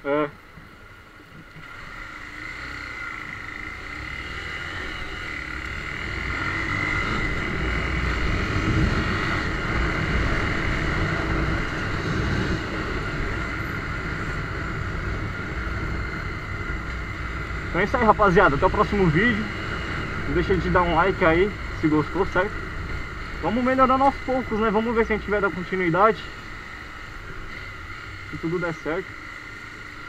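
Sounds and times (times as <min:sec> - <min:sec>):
motorcycle engine accelerating: 0:01.3 - 0:30.0.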